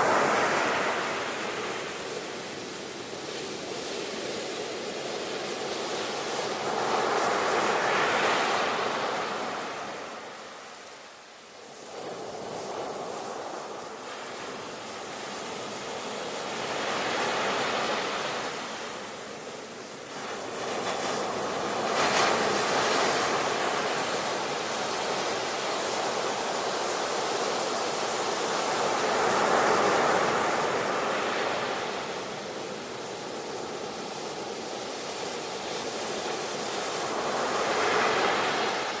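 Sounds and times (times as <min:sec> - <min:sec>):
ocean waves washing: 0:00.0 - 0:39.0.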